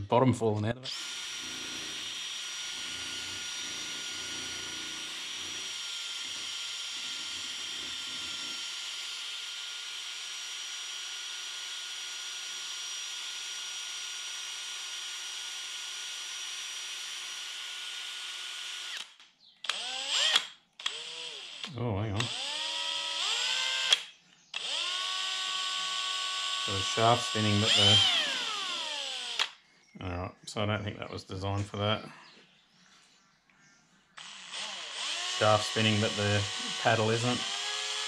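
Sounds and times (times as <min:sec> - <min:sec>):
electric drill whining: 0:00.9 - 0:29.6, 0:34.2 - 0:38.0.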